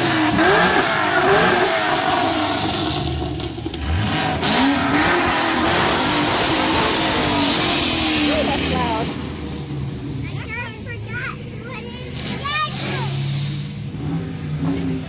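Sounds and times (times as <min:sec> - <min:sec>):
passing car engine revving: 0:00.0 - 0:15.0.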